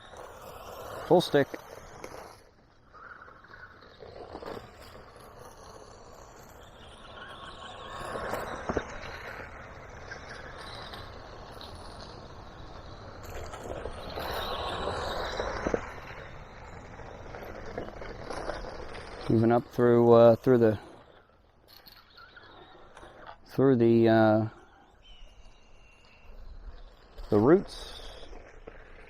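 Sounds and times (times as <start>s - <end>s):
rc car motor whirring: 0.0s - 29.0s.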